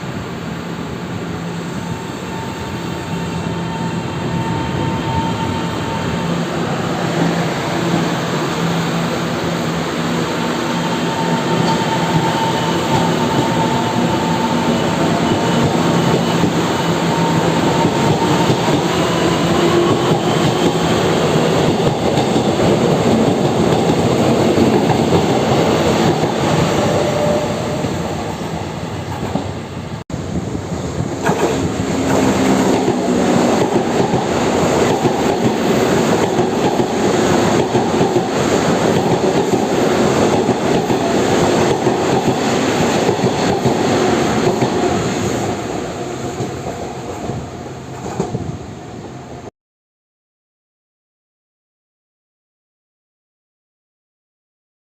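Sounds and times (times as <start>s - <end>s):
train wheels rumbling: 1.1s - 48.8s.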